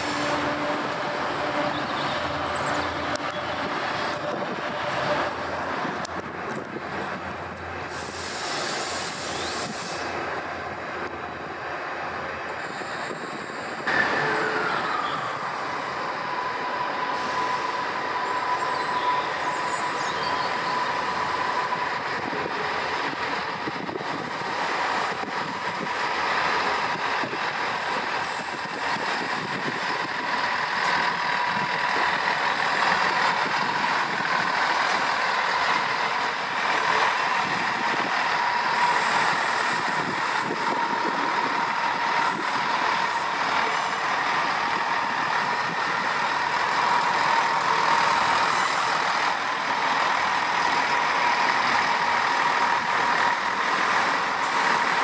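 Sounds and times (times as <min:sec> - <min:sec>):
diesel train engines running: 0:00.0 - 0:55.0.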